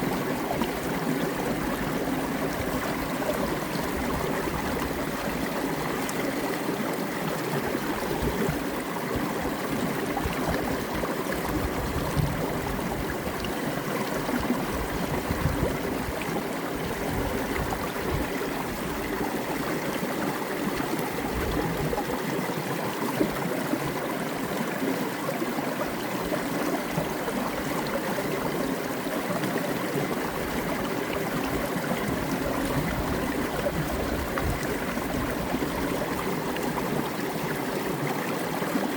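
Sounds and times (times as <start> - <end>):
creek water cascading over rock: 0.0 - 38.9.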